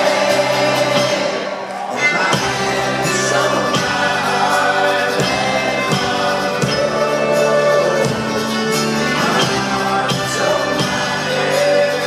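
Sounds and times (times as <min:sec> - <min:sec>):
banjo: 0:00.0 - 0:12.0
people singing: 0:00.0 - 0:12.0
steady drum beat: 0:00.0 - 0:12.0.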